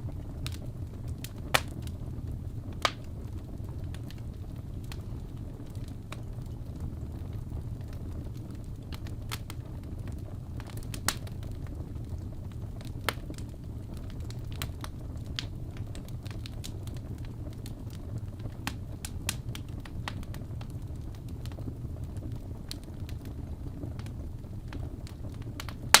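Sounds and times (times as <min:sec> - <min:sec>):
fireplace fire crackling: 0:00.0 - 0:26.0
sharp pops of fire: 0:00.1 - 0:26.0.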